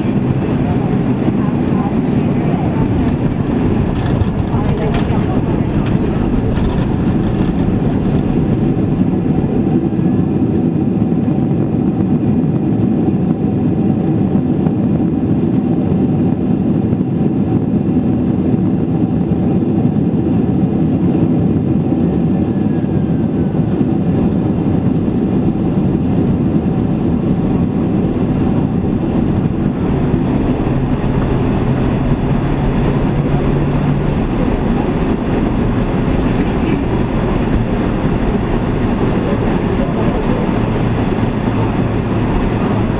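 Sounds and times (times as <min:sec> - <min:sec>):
aircraft engines and wheels rumbling: 0:00.0 - 0:42.9.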